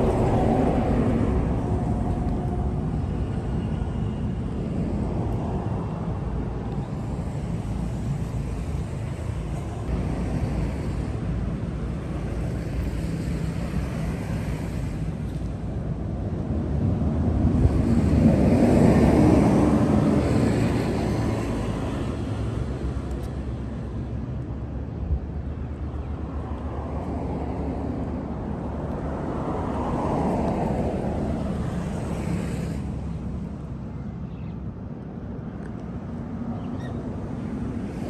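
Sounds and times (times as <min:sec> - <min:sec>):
passing traffic rumble and hiss: 0:00.0 - 0:38.0.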